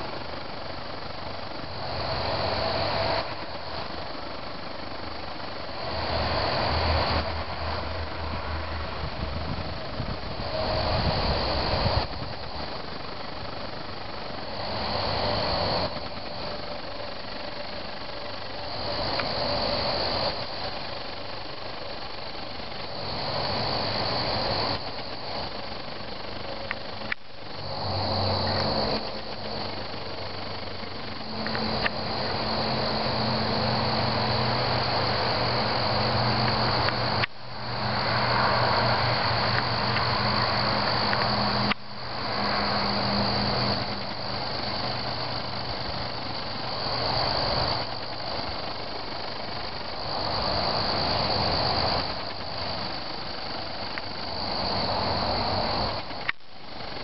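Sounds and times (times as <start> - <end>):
crickets chirping: 0.0 - 57.0
low hum and rumble: 0.0 - 57.0.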